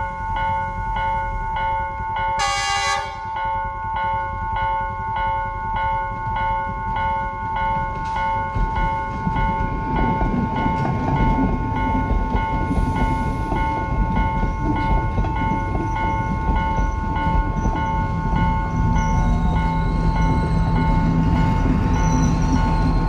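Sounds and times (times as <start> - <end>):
level crossing warning bell ringing: 0.0 - 21.8
train rumbling: 0.0 - 23.0.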